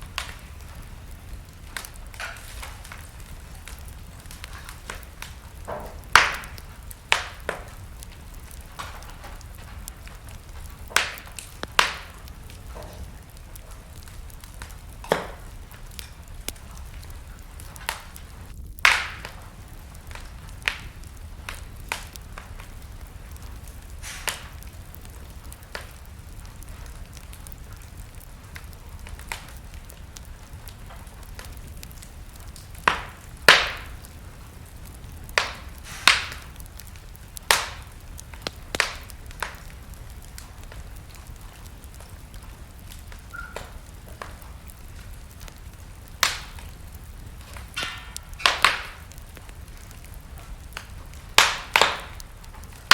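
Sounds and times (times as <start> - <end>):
fire hissing: 0.0 - 52.9
wood fire crackling: 0.0 - 52.9.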